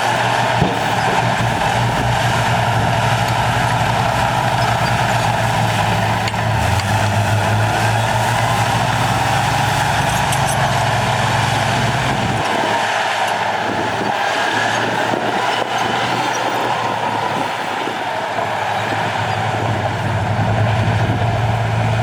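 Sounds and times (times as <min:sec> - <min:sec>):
heavy diesel machinery drone: 0:00.0 - 0:22.0.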